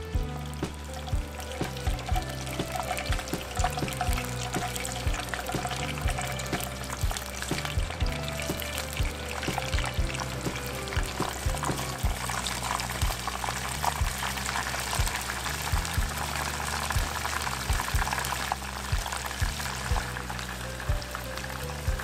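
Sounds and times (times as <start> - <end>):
background music with steady beat: 0.0 - 22.0
shrimp deep-frying in oil: 0.0 - 22.0.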